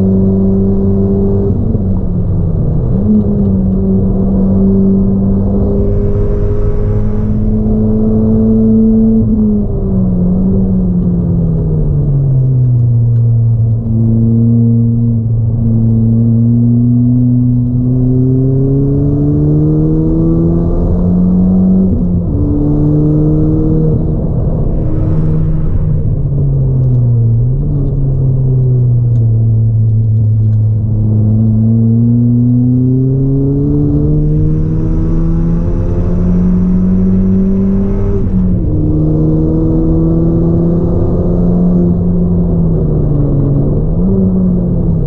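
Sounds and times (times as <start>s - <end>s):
car engine revving from inside cabin: 0.0s - 45.0s.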